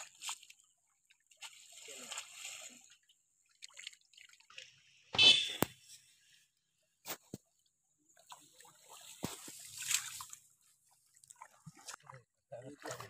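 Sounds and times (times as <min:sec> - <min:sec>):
pond water splashing: 0:00.0 - 0:13.0.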